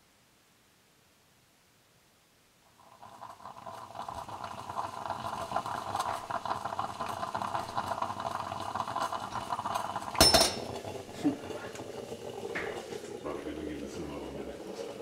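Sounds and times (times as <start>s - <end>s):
moka pot hissing and crackling: 2.6s - 15.0s.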